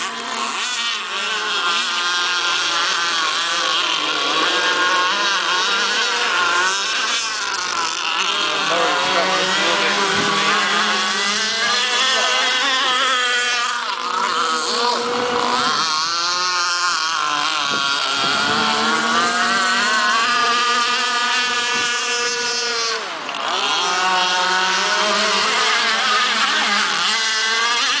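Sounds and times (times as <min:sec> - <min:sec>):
small two-stroke boat engine: 0:00.0 - 0:28.0.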